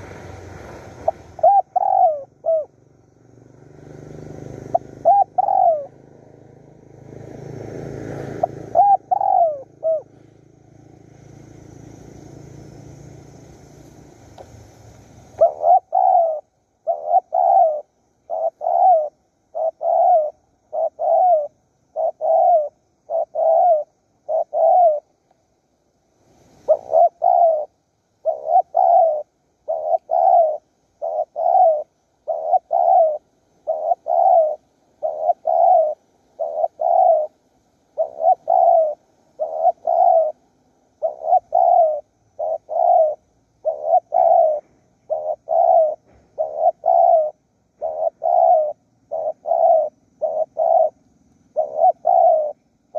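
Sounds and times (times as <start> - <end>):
dove cooing: 0.0 - 2.8, 4.0 - 7.3, 7.9 - 10.3, 15.2 - 25.2, 26.6 - 52.9.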